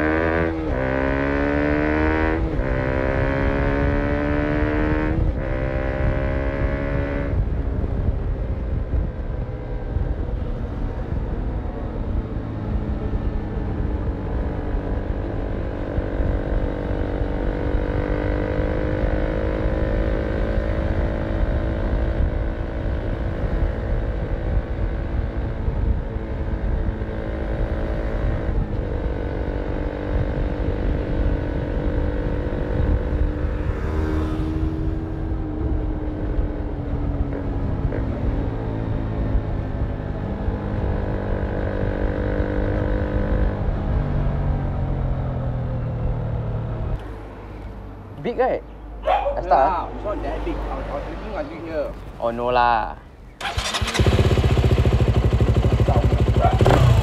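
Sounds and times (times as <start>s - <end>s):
motorcycle engine accelerating: 0.0s - 47.1s, 53.3s - 57.0s.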